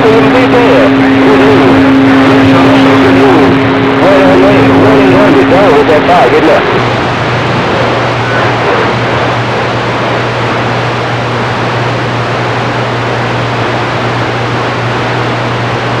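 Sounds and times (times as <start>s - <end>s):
low hum: 0.0s - 16.0s
radio static hiss: 0.0s - 16.0s.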